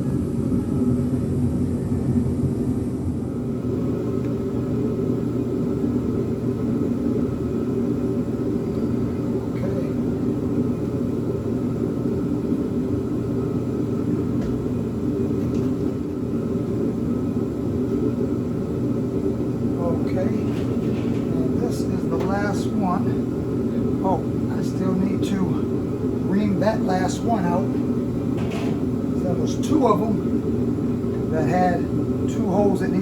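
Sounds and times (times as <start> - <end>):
machine low rumble: 0.0 - 33.0.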